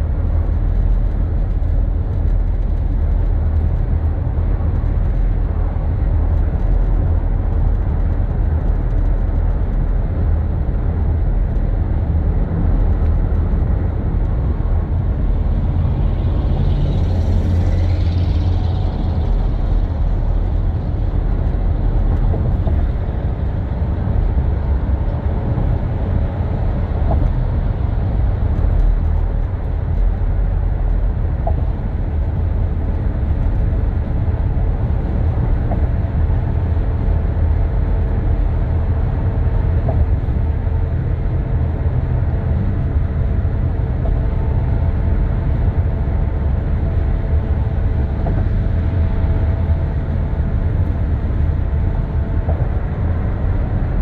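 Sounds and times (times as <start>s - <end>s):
tyre and road noise inside car: 0.0s - 54.0s.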